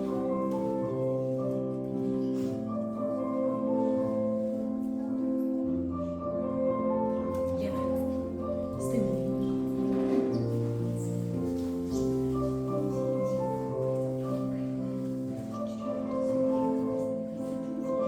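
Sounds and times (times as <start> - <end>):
classical piano music: 0.0 - 18.0.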